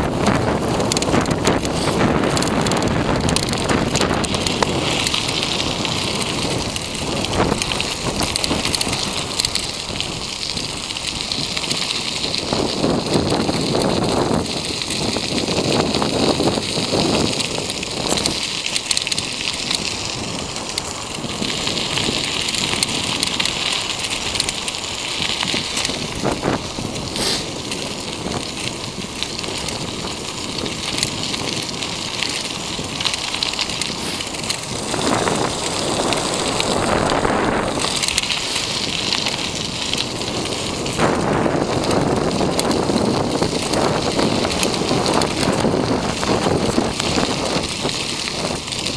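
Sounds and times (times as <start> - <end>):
wheels rolling on asphalt: 0.0 - 48.9
wind buffeting microphone: 0.0 - 48.9.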